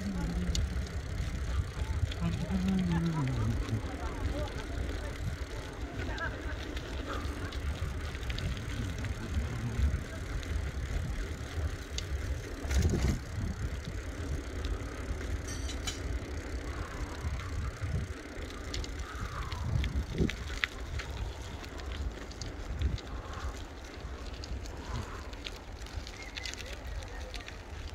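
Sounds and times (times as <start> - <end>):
faint clicks: 0.0 - 13.0, 14.2 - 27.9
wind buffeting microphone: 0.0 - 27.1.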